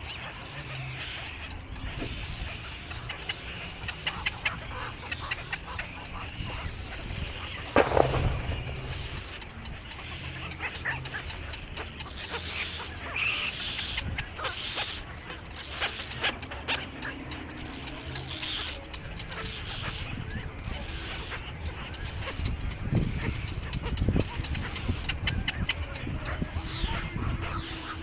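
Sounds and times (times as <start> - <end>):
low steady hum: 0.0 - 28.0
small birds chirping: 0.0 - 28.0.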